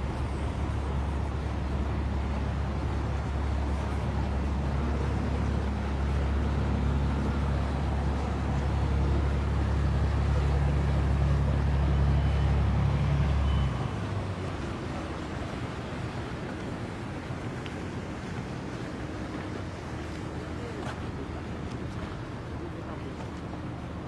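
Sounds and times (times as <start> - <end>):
boat engine drone: 0.0 - 24.0.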